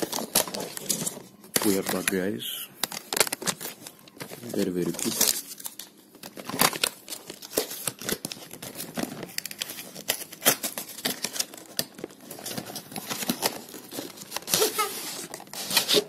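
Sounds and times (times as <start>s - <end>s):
packaging crinkling and tearing: 0.0s - 16.0s.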